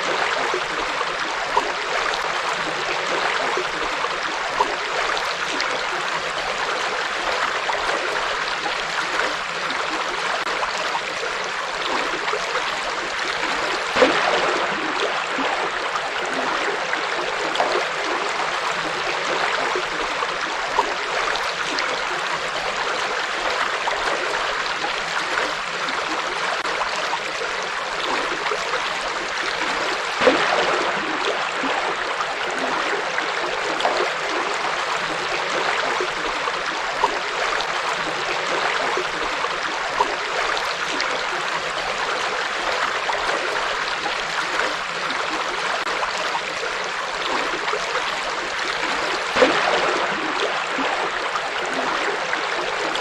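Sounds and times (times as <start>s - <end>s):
water splashing: 0.0s - 53.0s.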